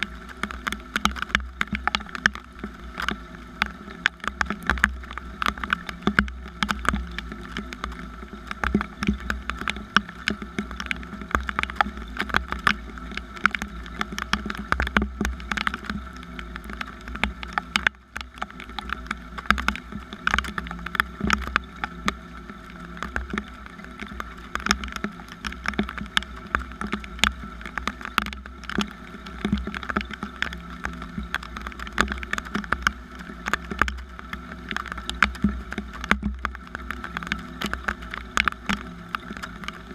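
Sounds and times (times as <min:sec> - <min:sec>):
raindrops ticking on hard surface: 0:00.0 - 0:39.9.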